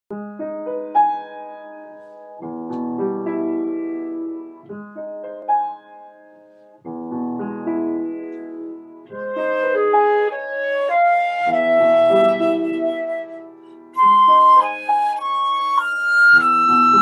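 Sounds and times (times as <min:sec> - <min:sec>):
slow piano chords: 0:00.1 - 0:17.0.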